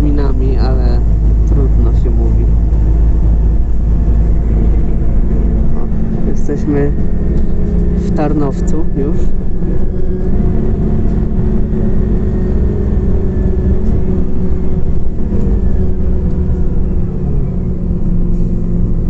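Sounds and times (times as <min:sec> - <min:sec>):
bus engine drone: 0:00.0 - 0:19.0
road rumble: 0:00.0 - 0:19.0.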